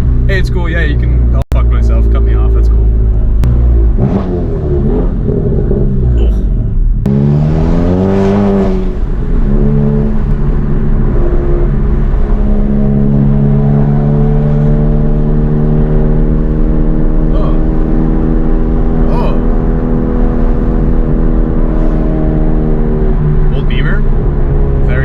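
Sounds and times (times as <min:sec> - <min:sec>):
car engine accelerating hard: 0:00.4 - 0:25.0.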